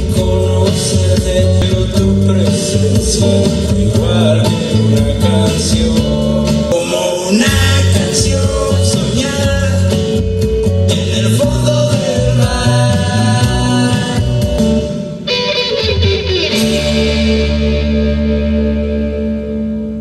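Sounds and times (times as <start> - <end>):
song with singing and guitar: 0.0 - 20.0.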